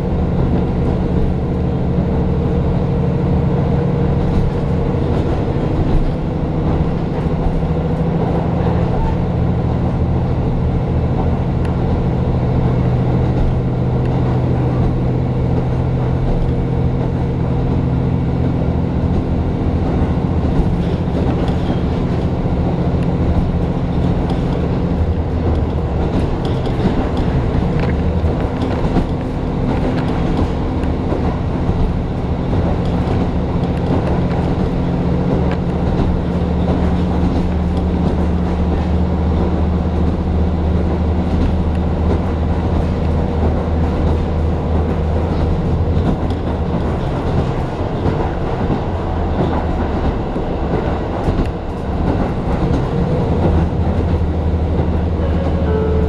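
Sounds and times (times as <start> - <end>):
diesel engine drone: 0.0 - 56.0
wheels clattering on rails: 0.0 - 56.0.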